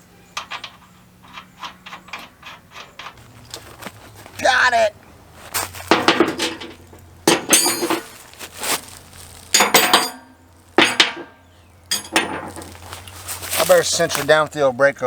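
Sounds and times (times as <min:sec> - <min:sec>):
metal parts clanking: 0:00.3 - 0:04.5, 0:05.4 - 0:14.5.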